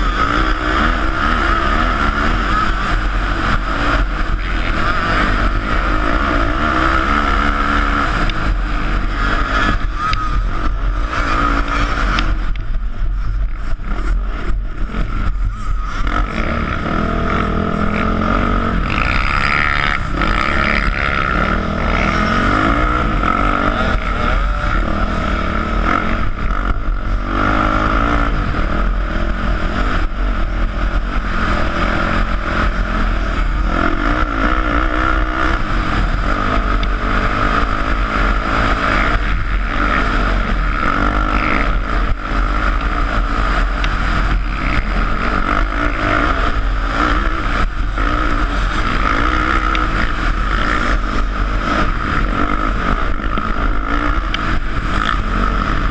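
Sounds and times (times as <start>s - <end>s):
quad engine revving: 0.0s - 55.9s
wind rumbling on microphone: 0.0s - 55.9s.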